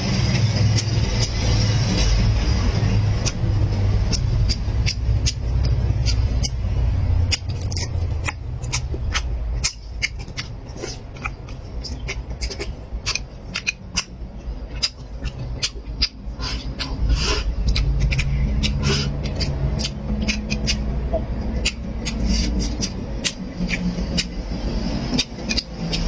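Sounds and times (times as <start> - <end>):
chewing with mouth clicks: 0.0 - 26.0
low rumble: 0.0 - 26.0.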